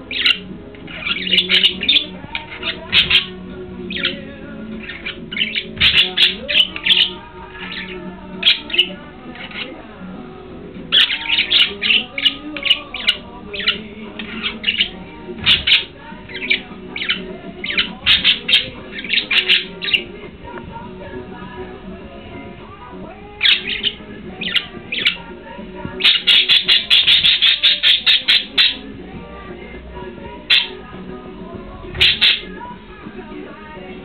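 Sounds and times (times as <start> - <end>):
budgerigars chirping and squawking: 0.0 - 9.9, 10.9 - 21.6, 23.2 - 29.1, 30.1 - 30.9, 31.9 - 33.9.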